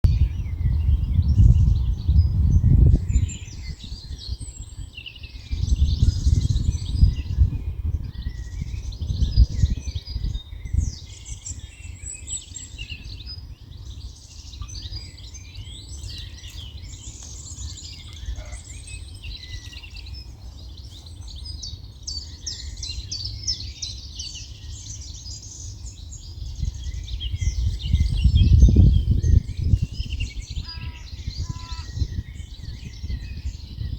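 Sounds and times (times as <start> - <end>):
songbirds chorus of chirps and trills: 0.0 - 33.9
wind rumbling on microphone: 0.0 - 33.9.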